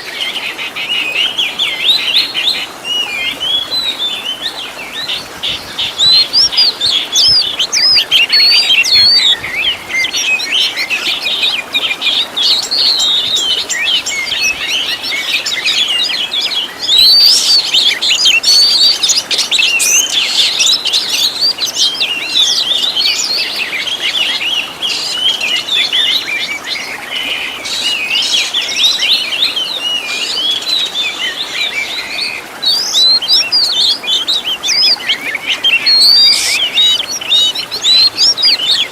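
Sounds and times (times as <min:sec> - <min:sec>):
songbird singing chirps and trills: 0:00.0 - 0:38.9.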